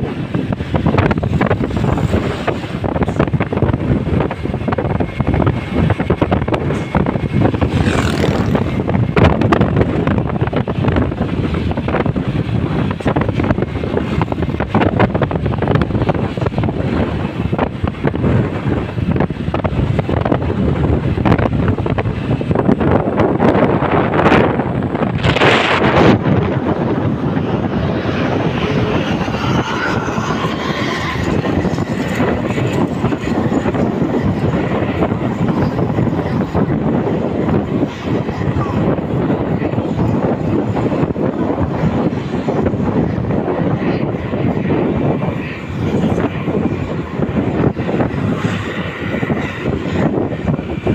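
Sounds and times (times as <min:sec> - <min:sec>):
moving vehicle on road: 0:00.0 - 0:50.9
wind buffeting microphone: 0:00.0 - 0:50.9.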